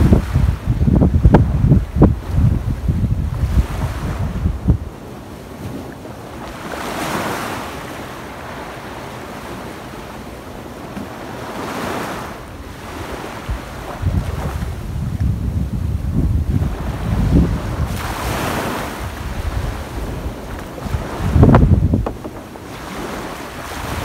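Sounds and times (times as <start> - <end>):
wind buffeting microphone: 0.0 - 7.9, 10.8 - 24.0
small waves washing up beach: 0.0 - 24.0.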